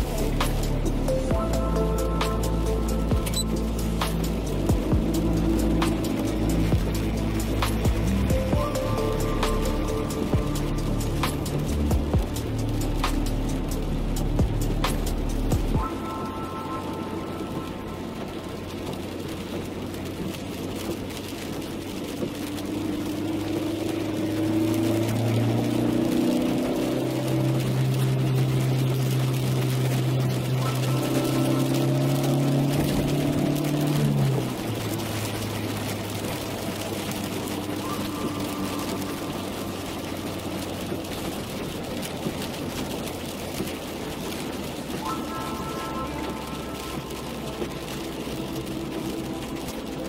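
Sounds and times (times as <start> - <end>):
car engine hum: 0.0 - 50.0
rain spatter ticks: 0.0 - 50.0
tyre noise on wet road: 0.0 - 50.0.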